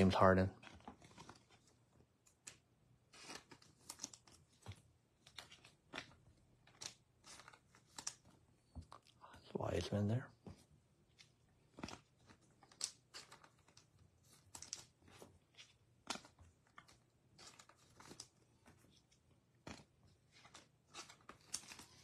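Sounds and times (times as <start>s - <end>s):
cards being flipped through: 0.4s - 9.0s, 10.5s - 22.0s.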